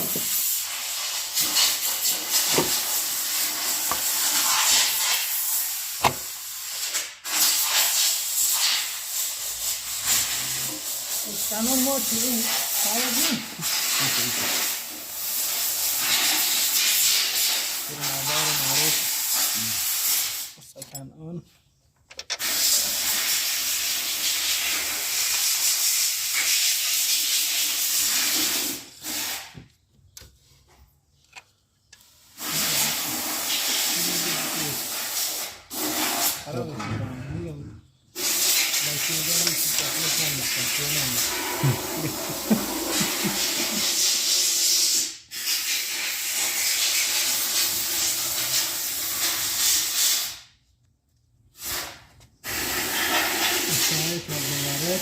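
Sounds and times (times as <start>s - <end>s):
pressurised air hiss: 0.0s - 20.6s, 22.4s - 29.6s, 32.1s - 36.5s, 38.1s - 50.6s, 51.6s - 55.0s.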